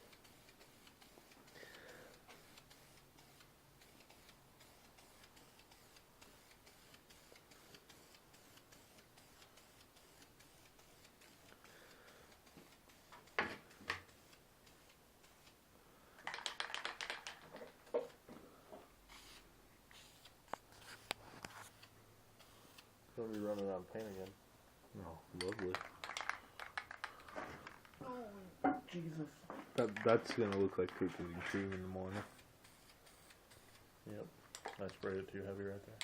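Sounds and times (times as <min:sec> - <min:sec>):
spray-paint can being shaken: 0:00.0 - 0:11.7, 0:12.4 - 0:15.5, 0:16.2 - 0:18.1, 0:19.1 - 0:21.8, 0:22.4 - 0:24.4, 0:25.4 - 0:28.0, 0:29.8 - 0:33.8, 0:34.5 - 0:36.0
faint steady ticking: 0:00.0 - 0:36.0.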